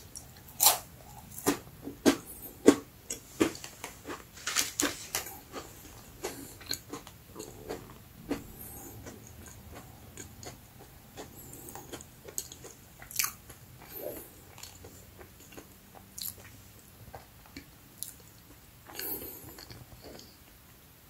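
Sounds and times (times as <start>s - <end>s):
person chewing crunchy biscuit: 0.0s - 20.5s.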